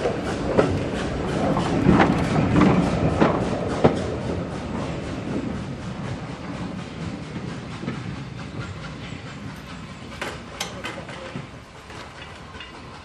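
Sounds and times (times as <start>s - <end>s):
train wheels clattering: 0.0s - 13.0s.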